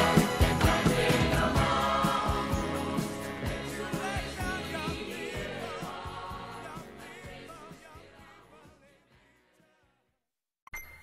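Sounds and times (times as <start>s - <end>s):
pop song with drum beat: 0.0s - 8.9s.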